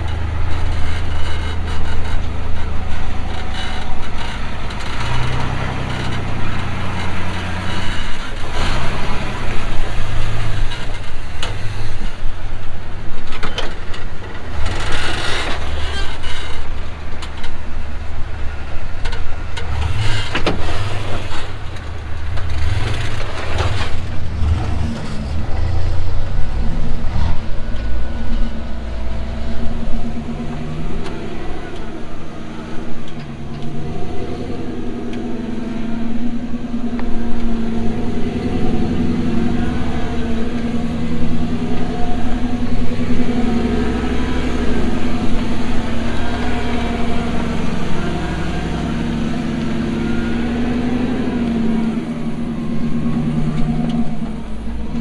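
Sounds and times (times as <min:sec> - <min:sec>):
buggy engine running: 0:00.0 - 0:55.0.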